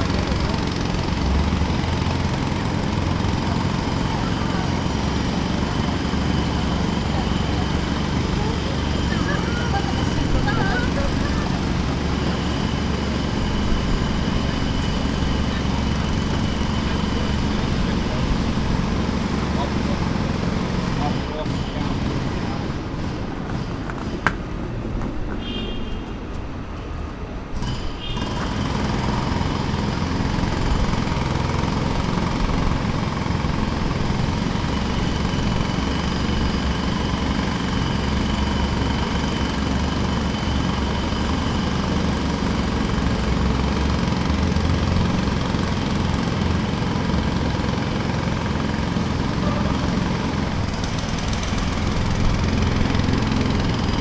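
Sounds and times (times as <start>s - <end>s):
jackhammer hammering: 0.0s - 24.6s, 27.5s - 54.0s.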